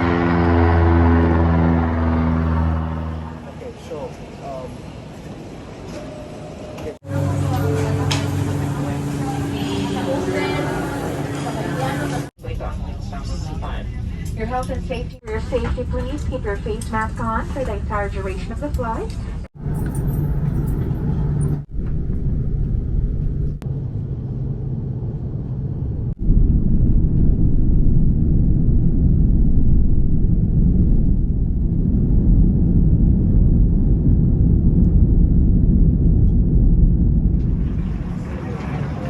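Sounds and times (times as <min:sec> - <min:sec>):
airliner engine rumble: 0:00.0 - 0:39.0
faint hum: 0:05.6 - 0:39.0.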